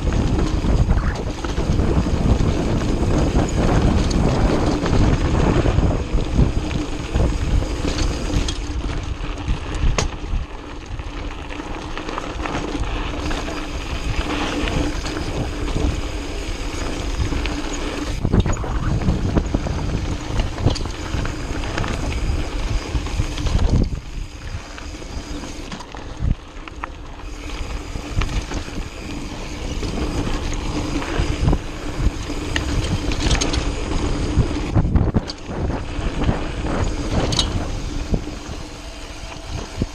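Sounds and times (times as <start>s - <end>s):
bike knocking and rattling: 0.0s - 39.9s
bike tyres rolling on dirt: 0.0s - 39.9s
wind buffeting microphone: 0.0s - 39.9s.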